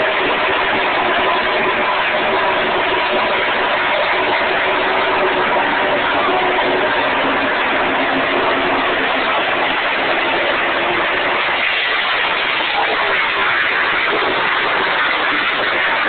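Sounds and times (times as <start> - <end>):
race car engines: 0.2 - 16.0.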